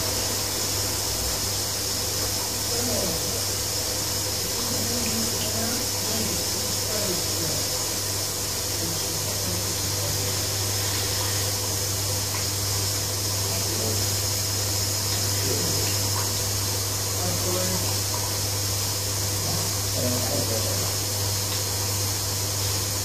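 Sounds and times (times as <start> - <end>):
washing machine humming: 0.0 - 23.0
water and laundry sloshing: 0.0 - 23.0.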